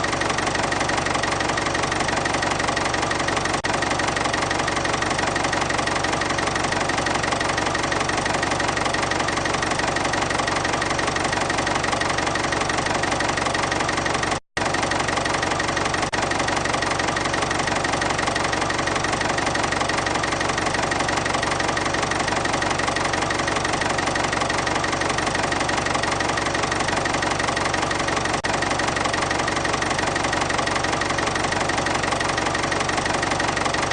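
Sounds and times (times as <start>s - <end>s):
constant whine: 0.0s - 33.9s
excavator diesel engine idling: 0.0s - 33.9s.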